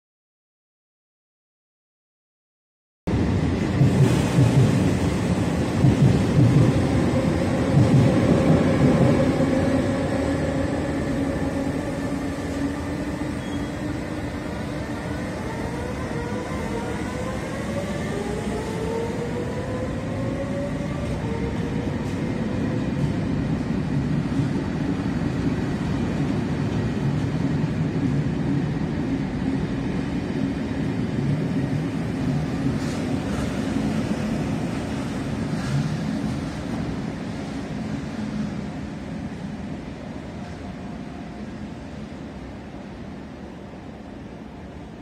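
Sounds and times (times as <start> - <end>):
carriages rumbling on rails: 3.1 - 45.0.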